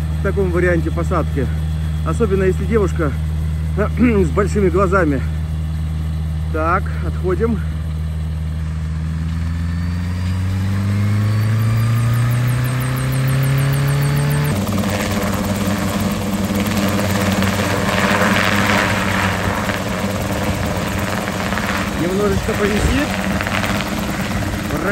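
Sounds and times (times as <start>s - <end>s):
helicopter engine and rotor: 0.0s - 24.9s.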